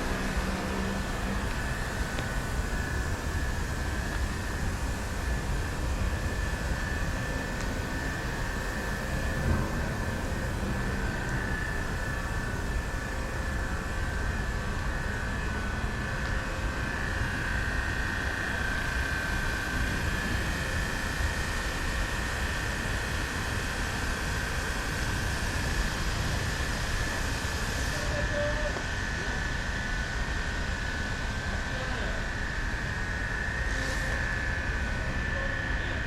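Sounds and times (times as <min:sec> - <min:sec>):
mechanical drone with high whine: 0:00.0 - 0:36.0.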